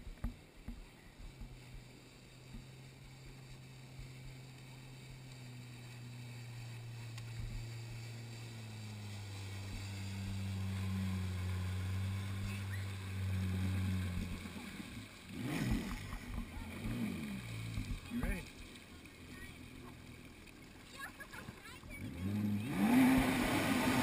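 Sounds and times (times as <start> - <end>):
jet ski engines running: 0.0 - 24.0
jet ski passing close: 0.0 - 24.0
water splashing: 0.0 - 24.0.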